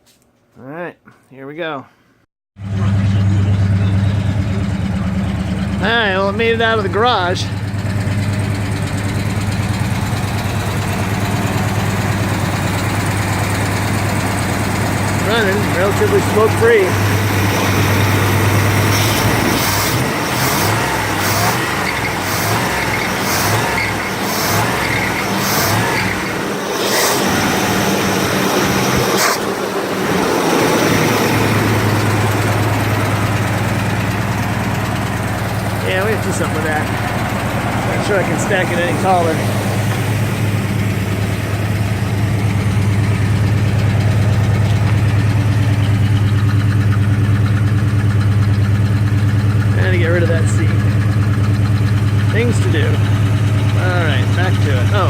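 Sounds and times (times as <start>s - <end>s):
car engine idling: 2.6s - 55.0s.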